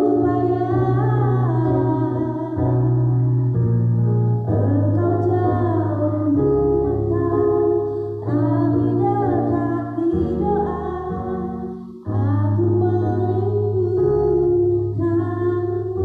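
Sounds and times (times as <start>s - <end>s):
woman singing into a microphone: 0.0s - 3.3s, 4.5s - 16.0s
electric keyboard: 0.0s - 16.0s.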